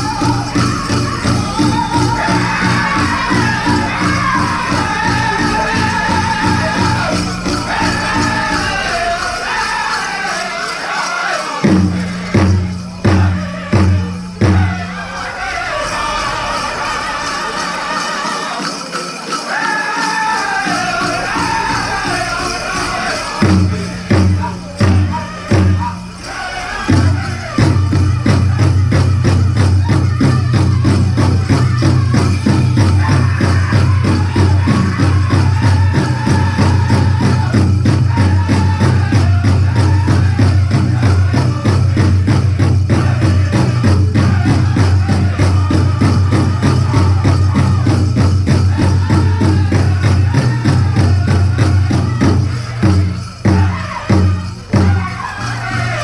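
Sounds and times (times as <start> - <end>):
large drum fast steady beat: 0.0 - 10.2, 11.6 - 18.5, 20.5 - 56.0
drum group singing: 0.0 - 56.0
leg bells jingling: 0.0 - 56.0.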